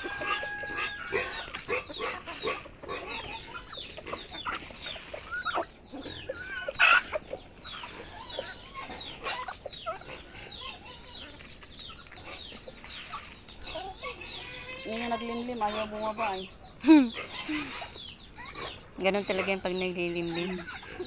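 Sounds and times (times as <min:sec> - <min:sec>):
chicken squawk: 0:00.0 - 0:11.5, 0:13.1 - 0:18.8
chickens clucking: 0:00.0 - 0:21.0.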